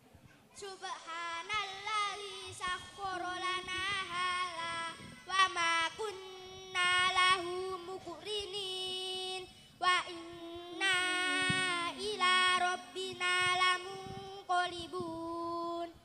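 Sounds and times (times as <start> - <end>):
boy chanting into a microphone: 0.4 - 16.0.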